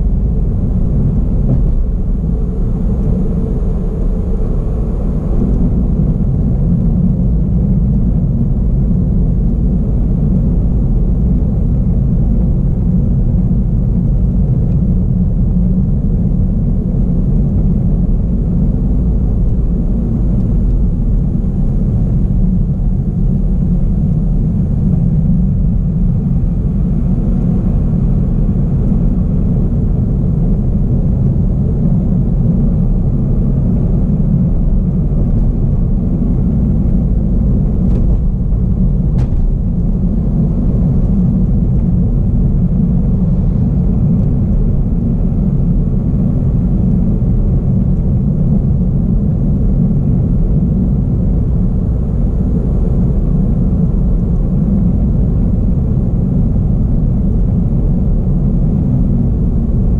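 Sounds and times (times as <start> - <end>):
car driving on asphalt: 0.0 - 59.9.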